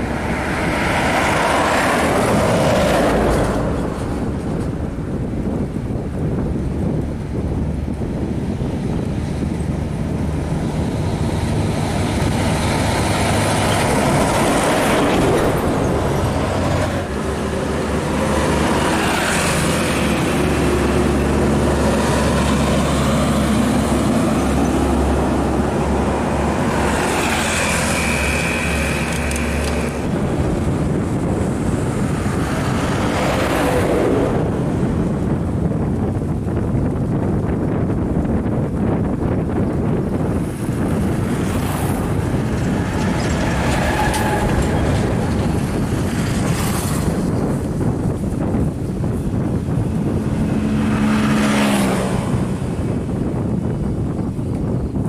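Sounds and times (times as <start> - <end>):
diesel trucks passing: 0.0 - 55.0
tyre and wind hiss: 0.0 - 55.0.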